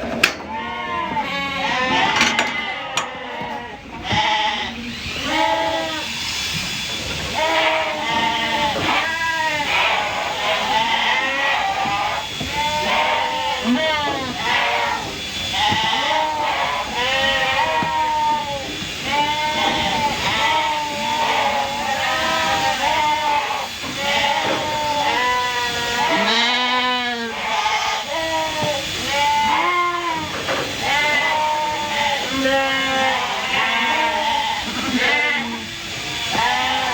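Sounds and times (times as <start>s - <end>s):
sheep bleating: 0.0s - 6.2s, 7.2s - 36.9s.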